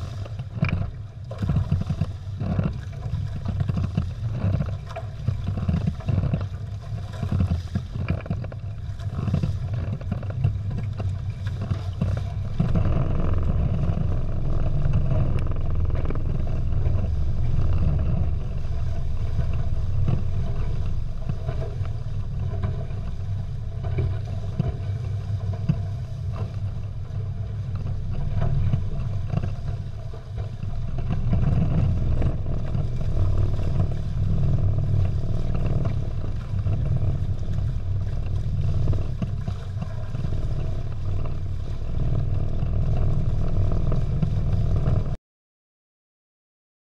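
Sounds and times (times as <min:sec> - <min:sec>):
water rushing along hulls: 0:00.0 - 0:45.2
wind rumbling on microphone: 0:00.0 - 0:45.2.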